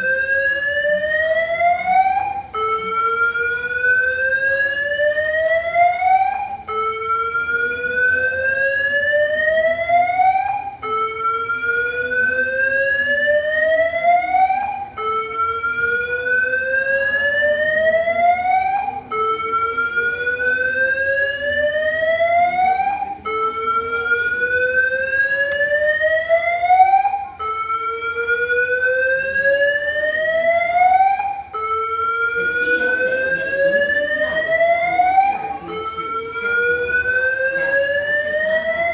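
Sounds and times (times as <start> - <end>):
alarm whooping: 0.0 - 38.9.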